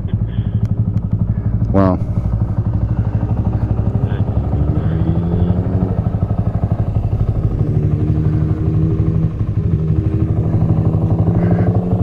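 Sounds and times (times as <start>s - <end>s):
small motorcycle engine idling: 0.0s - 12.0s.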